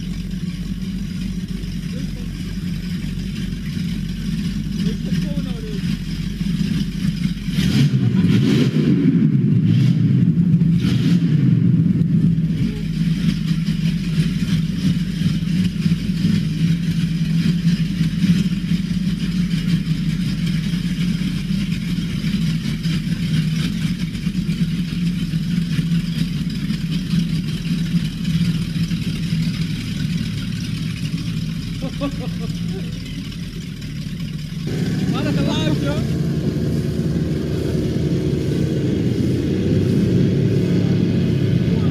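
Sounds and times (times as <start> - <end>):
boat engines running in tunnel: 0.0 - 41.9.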